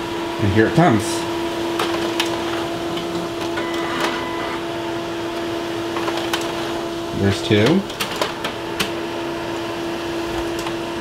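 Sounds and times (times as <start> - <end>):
printer motor hum: 0.0 - 11.0.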